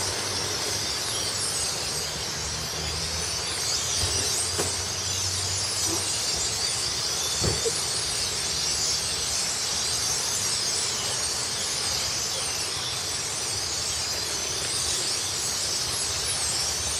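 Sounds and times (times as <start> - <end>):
flock of blackbirds chattering: 0.0 - 16.9.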